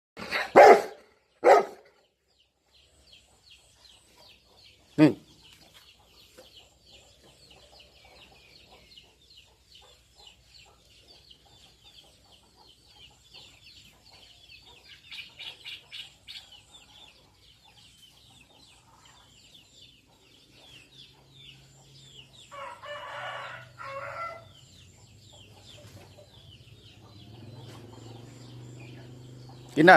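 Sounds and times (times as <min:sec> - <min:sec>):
birds chirping: 0:00.2 - 0:29.9.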